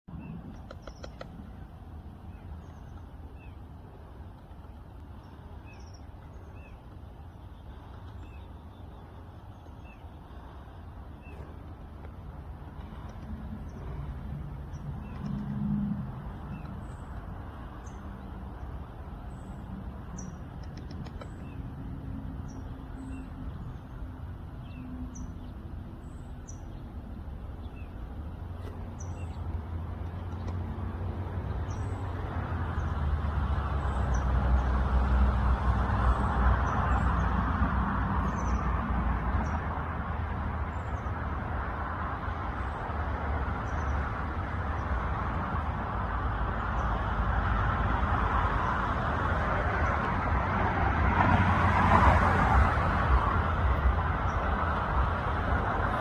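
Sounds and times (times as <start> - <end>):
small birds chirping: 0.1 - 34.8, 35.9 - 37.6, 38.2 - 41.4, 42.1 - 47.2, 53.6 - 55.1.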